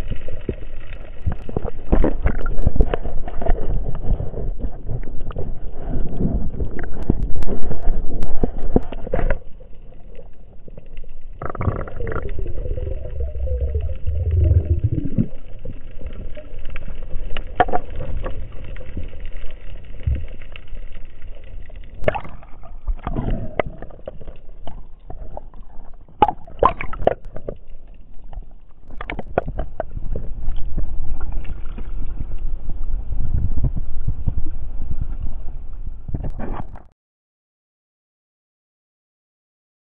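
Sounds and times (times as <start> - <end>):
water rushing and gurgling: 0.0 - 33.4.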